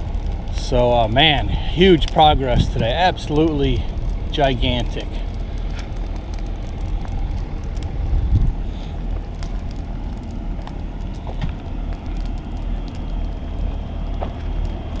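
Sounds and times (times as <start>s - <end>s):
burn pile crackling: 0.0s - 15.0s
fire pops: 0.0s - 15.0s
steady low rumble: 0.0s - 15.0s.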